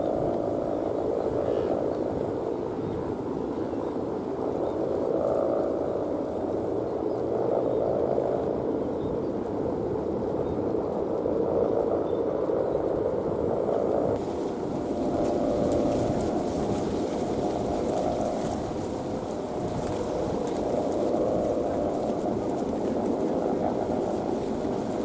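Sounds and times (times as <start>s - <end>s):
kite hummer buzzing drone: 0.0s - 25.0s
strong wind: 0.0s - 25.0s.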